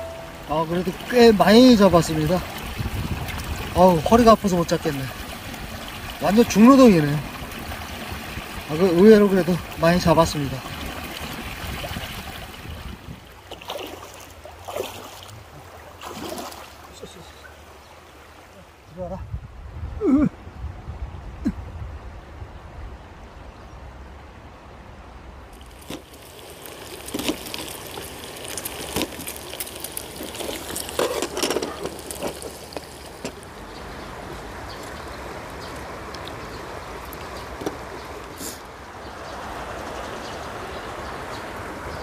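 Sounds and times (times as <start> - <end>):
stream flowing: 0.0 - 42.0.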